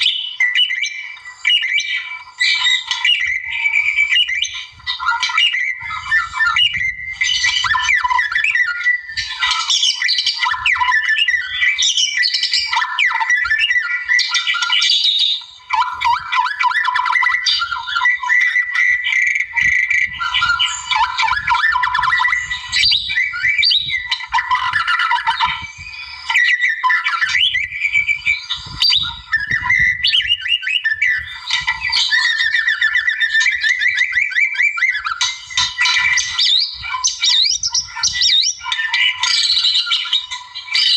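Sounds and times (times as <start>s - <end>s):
bird singing whistled phrases: 0.0s - 40.9s.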